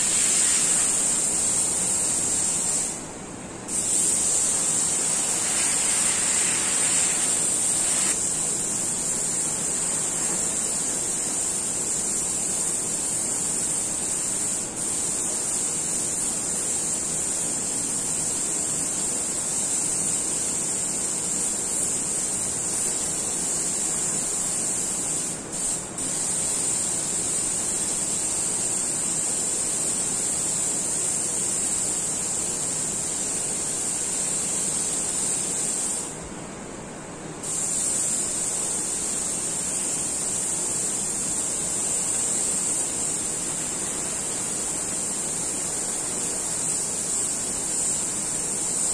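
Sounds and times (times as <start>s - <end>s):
airbrush hissing: 0.0s - 3.0s, 3.7s - 36.2s, 37.4s - 48.9s.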